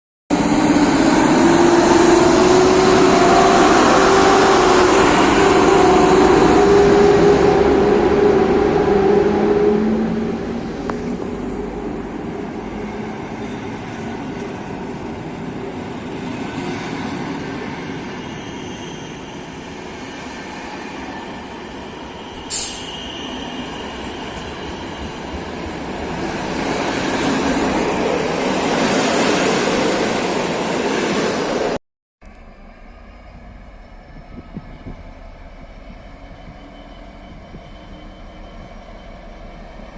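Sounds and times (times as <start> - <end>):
train running on rails: 0.3 - 39.9.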